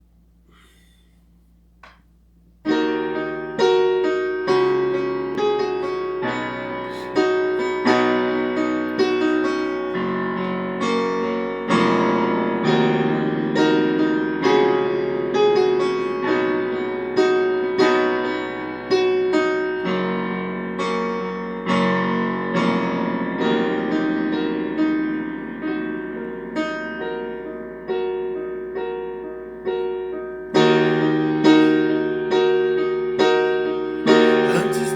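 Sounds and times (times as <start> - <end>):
electronic keyboard piano chords: 2.7 - 34.9.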